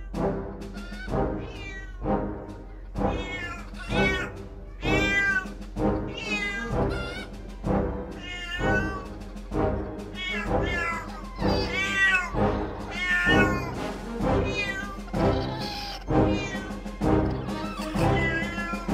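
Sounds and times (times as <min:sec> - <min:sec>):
cat meowing: 0:00.0 - 0:02.0, 0:03.1 - 0:07.3, 0:08.2 - 0:09.2, 0:10.1 - 0:13.8, 0:14.4 - 0:18.9
backing music track: 0:00.0 - 0:18.9.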